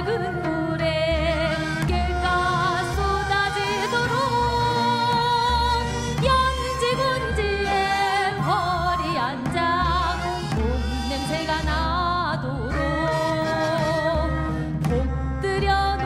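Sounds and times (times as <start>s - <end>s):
instrumental accompaniment: 0.0s - 16.0s
person singing with vibrato: 0.0s - 16.0s.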